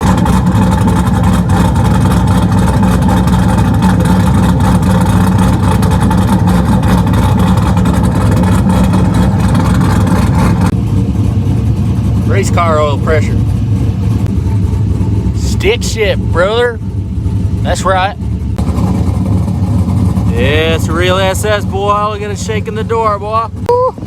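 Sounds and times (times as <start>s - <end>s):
loud car engine idling: 0.0s - 24.0s.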